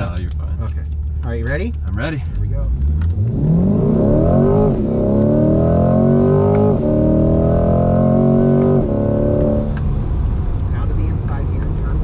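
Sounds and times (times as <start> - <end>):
car engine accelerating hard: 2.0 - 12.0.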